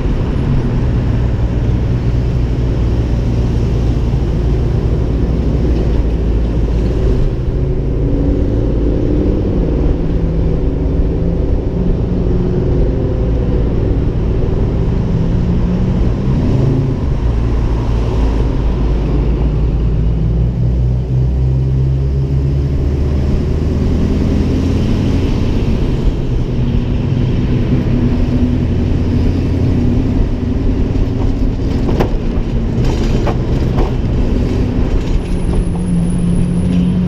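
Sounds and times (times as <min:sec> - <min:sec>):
car engine and exhaust droning: 0:00.0 - 0:37.0
road and wind noise: 0:00.0 - 0:37.0.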